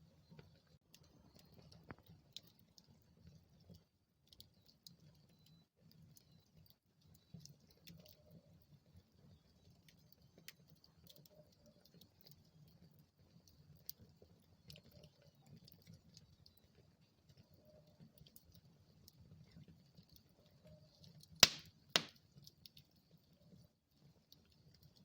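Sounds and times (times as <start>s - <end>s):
wood fire crackling: 0.1s - 25.0s.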